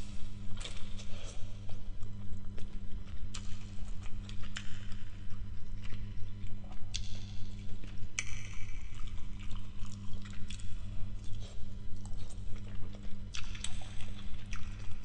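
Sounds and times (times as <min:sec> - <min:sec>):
steady low hum: 0:00.0 - 0:15.0
wet chewing and mouth clicks: 0:00.6 - 0:15.0.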